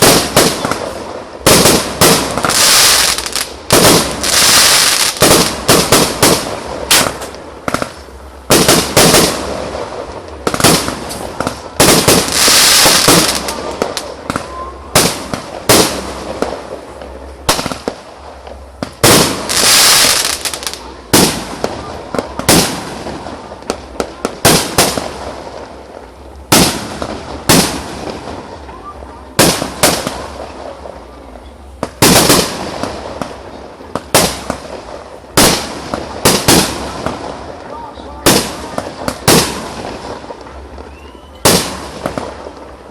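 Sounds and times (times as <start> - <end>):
crackling hiss: 0.0 - 42.9.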